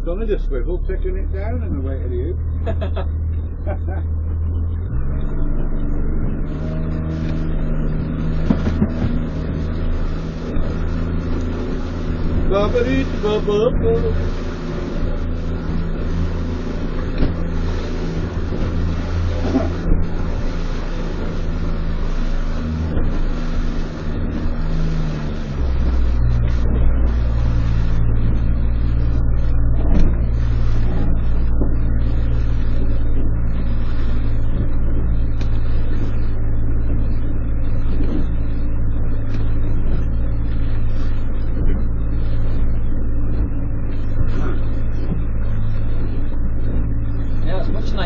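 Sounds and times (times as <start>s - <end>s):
boat engine running: 0.0s - 48.0s.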